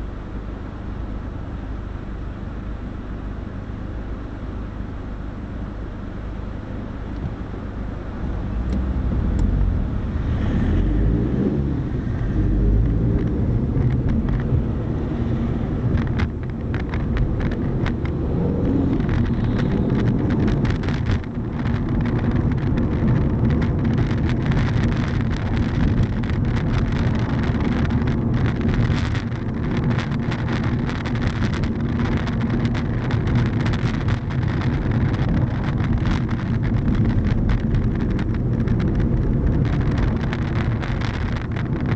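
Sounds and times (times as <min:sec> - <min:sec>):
car engine rumbling: 0:00.0 - 0:41.9.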